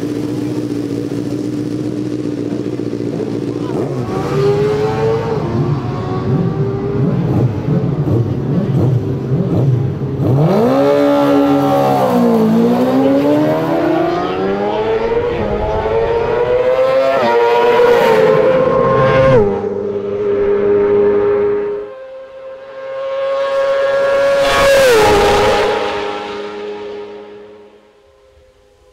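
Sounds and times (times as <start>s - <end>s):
racing engine revving: 0.0s - 27.9s.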